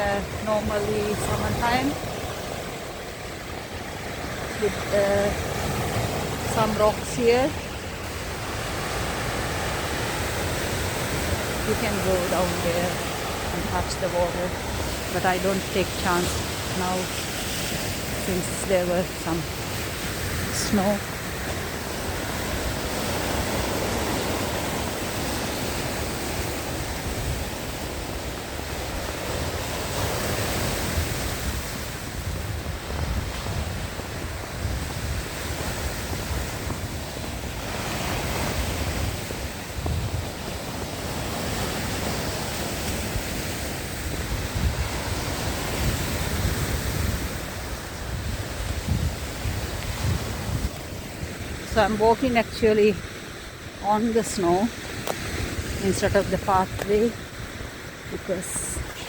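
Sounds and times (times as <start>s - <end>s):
waves washing onto shore: 0.0s - 59.0s
wind gusting on microphone: 0.0s - 59.0s.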